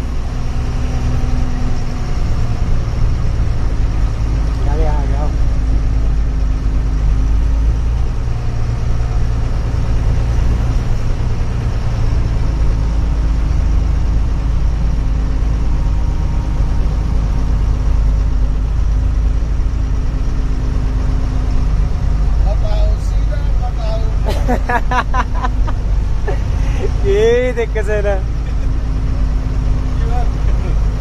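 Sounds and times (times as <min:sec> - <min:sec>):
truck engine rumbling: 0:00.0 - 0:31.0.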